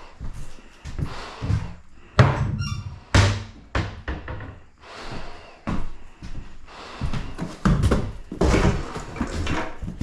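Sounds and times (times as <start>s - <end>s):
knocks and scuffs: 0.2s - 10.0s.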